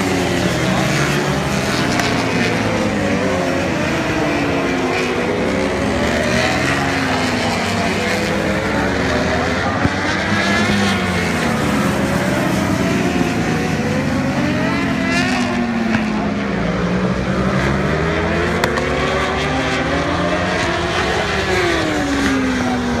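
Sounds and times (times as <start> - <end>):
racing motorcycles at speed: 0.0 - 23.0.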